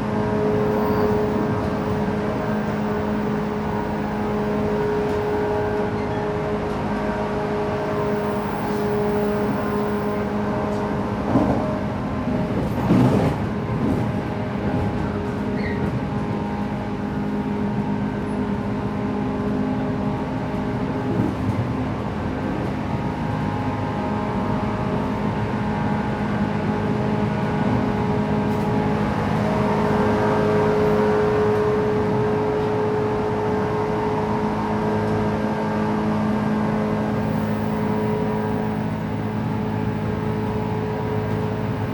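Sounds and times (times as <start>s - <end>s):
rail and wheel noise: 0.0s - 41.9s.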